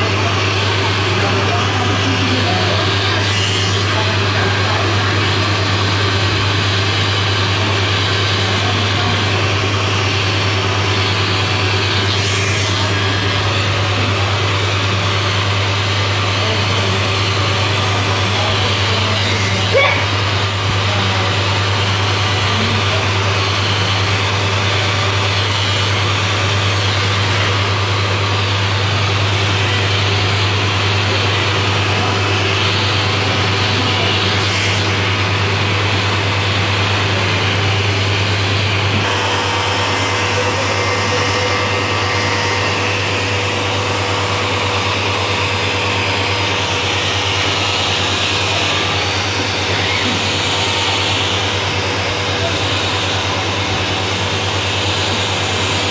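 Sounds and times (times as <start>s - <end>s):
low motor drone: 0.0s - 55.9s
suction machine air rush: 0.0s - 55.9s.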